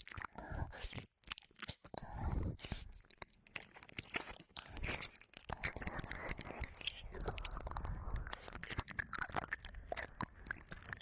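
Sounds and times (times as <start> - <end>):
tongue clicks and lip smacks: 0.0 - 11.0.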